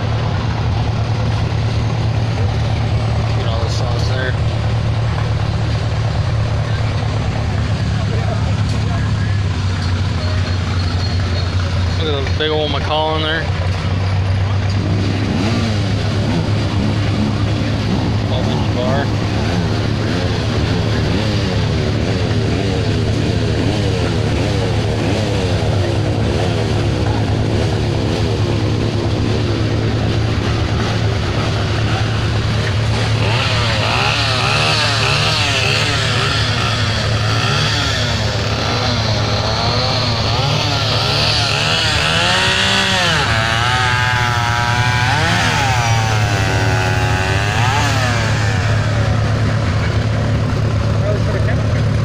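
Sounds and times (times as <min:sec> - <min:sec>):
low engine drone: 0:00.0 - 0:52.0
small engines revving: 0:00.0 - 0:52.0.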